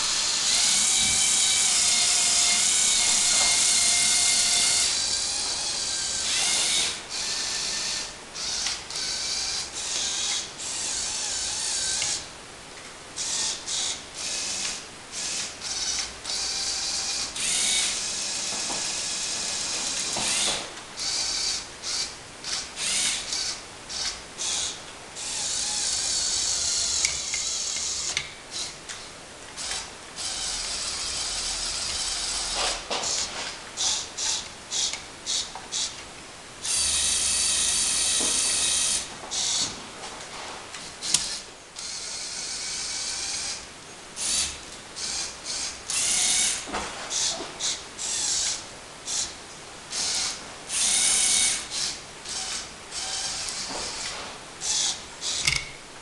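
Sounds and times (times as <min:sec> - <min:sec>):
electric motors whirring through gears: 0:00.0 - 0:12.3, 0:13.2 - 0:29.0, 0:29.6 - 0:36.0, 0:36.6 - 0:39.8, 0:40.7 - 0:55.8.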